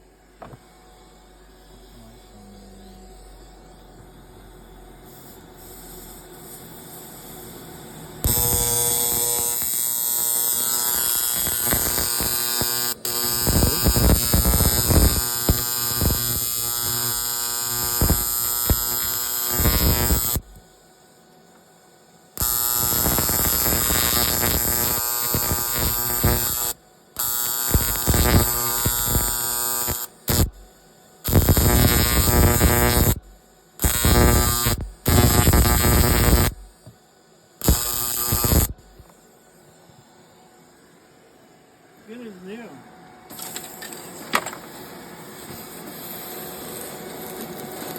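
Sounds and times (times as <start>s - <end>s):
arc welder buzzing: 0.0s - 20.8s, 21.5s - 47.9s.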